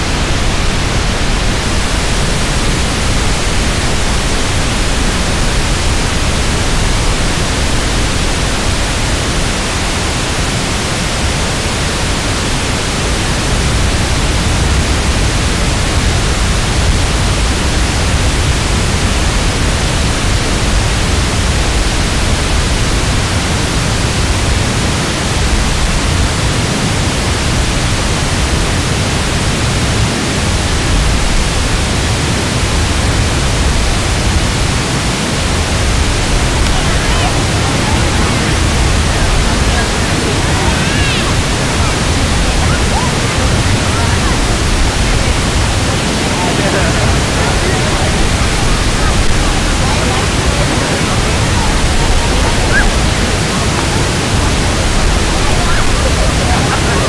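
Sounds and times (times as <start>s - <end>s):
synthesized waterfall rush: 0.0s - 57.0s.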